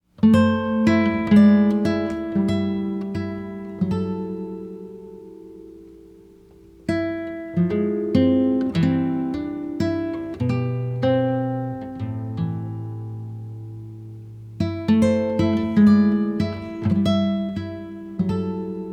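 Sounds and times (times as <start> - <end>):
acoustic guitar plucked melody: 0.0 - 18.9.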